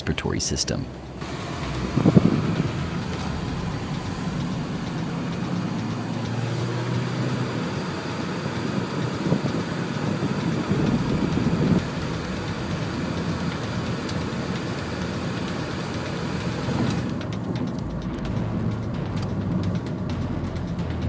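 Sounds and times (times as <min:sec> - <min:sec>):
low hum: 0:00.0 - 0:21.0
vehicle engine and road rumble: 0:00.0 - 0:21.0.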